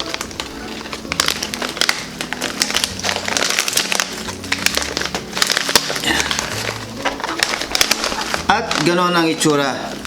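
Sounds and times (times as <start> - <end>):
plastic pouch crinkling: 0.0 - 10.0.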